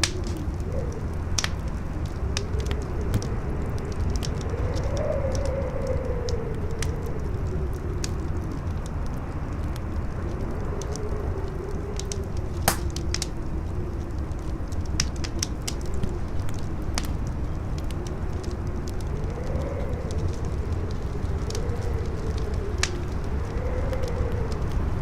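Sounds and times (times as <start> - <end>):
campfire crackling: 0.0 - 25.0
strong wind howling: 0.0 - 25.0.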